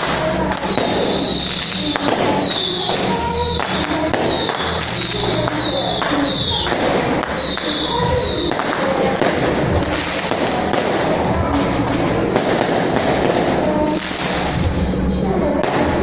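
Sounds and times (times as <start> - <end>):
firecrackers crackling: 0.0 - 16.0
music: 0.0 - 16.0.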